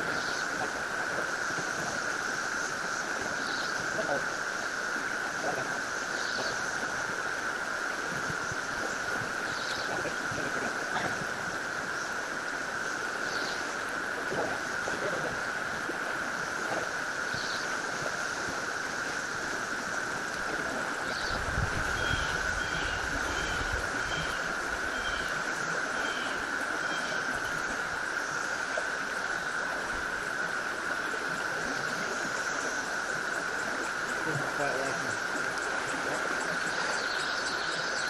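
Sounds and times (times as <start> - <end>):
wind rumble on microphone: 0.0 - 37.0
cicada chorus drone: 0.0 - 38.0
river water rushing: 0.0 - 38.0.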